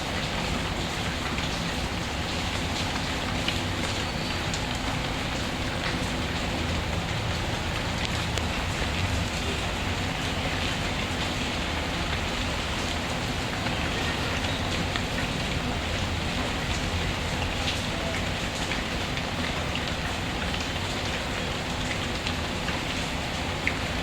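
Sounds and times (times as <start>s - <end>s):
rain hissing on a surface: 0.0s - 24.0s.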